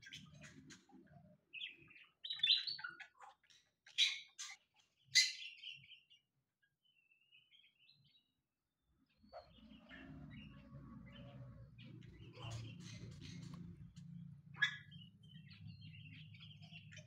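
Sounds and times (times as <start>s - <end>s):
faint bird twittering: 0.0s - 6.2s, 9.0s - 17.0s
bird chirping: 0.0s - 8.4s, 9.0s - 17.0s.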